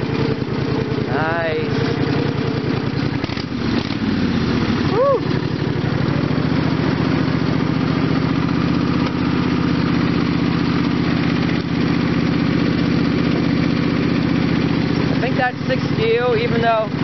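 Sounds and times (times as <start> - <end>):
lawn tractor engine running: 0.0 - 17.0.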